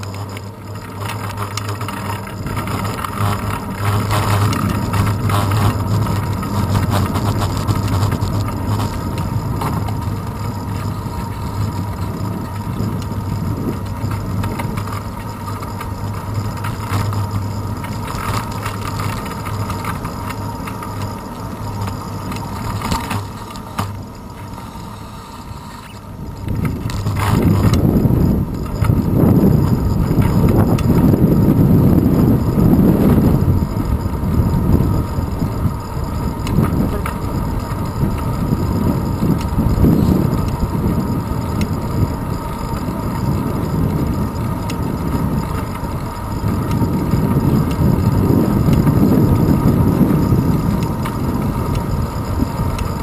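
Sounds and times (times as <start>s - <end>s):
tyre and road noise: 0.0s - 53.0s
wind buffeting microphone: 1.9s - 23.9s, 26.0s - 53.0s.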